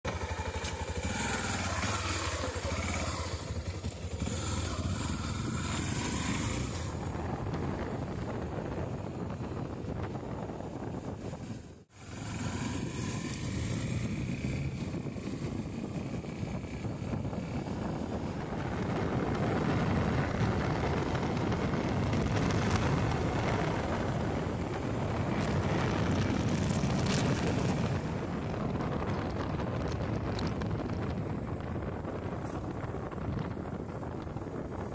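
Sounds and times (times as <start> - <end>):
motorcycle engine running: 0.0 - 34.9
wind rush on microphone: 0.2 - 34.9.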